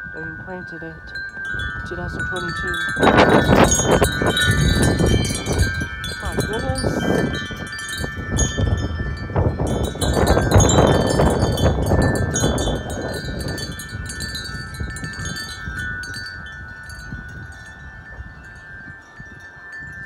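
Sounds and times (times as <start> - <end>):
wind buffeting microphone: 0.0 - 20.0
wind chimes ringing: 0.0 - 20.0.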